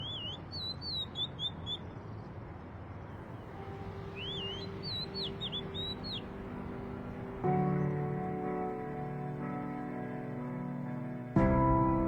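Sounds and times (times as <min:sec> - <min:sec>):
soft outdoor hiss: 0:00.0 - 0:12.0
songbird chirping: 0:00.0 - 0:12.0.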